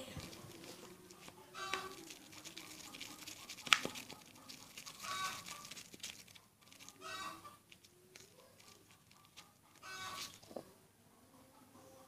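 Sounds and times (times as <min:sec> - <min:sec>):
slime being stirred squelching: 0:00.0 - 0:10.6.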